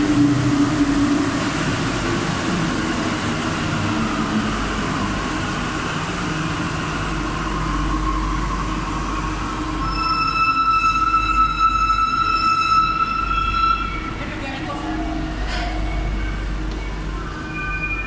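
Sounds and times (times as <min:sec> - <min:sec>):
train cars rumbling past: 0:00.0 - 0:18.0.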